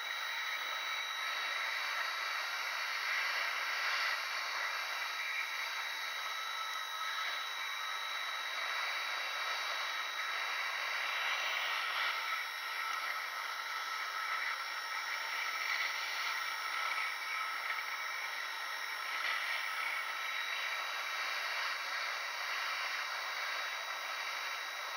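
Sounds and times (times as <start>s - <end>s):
faint high whine: 0.0s - 24.9s.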